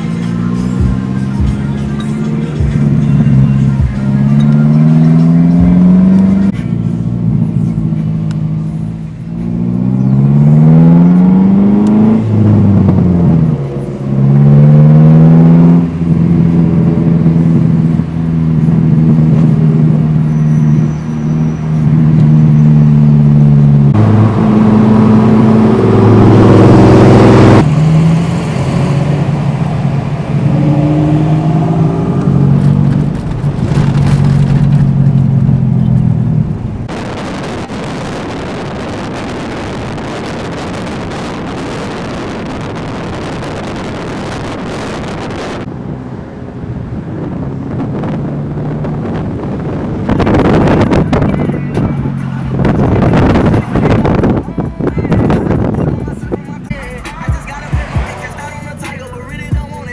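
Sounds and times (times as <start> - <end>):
vehicle engine accelerating: 0.0 - 59.9.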